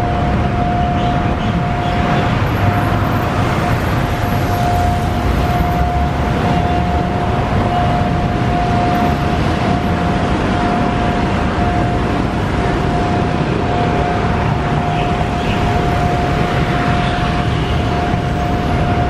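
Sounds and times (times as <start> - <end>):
road traffic rumbling: 0.0 - 19.0
steady high warning tone: 0.0 - 19.0.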